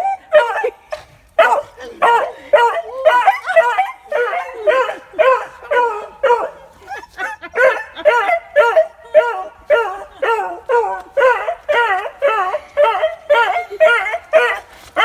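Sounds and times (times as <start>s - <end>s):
dog yelping howls: 1.4s - 6.6s, 7.5s - 15.0s.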